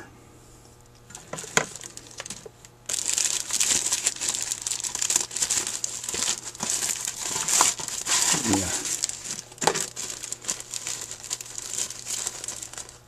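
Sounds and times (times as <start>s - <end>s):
plastic bag crinkling: 1.1s - 13.0s.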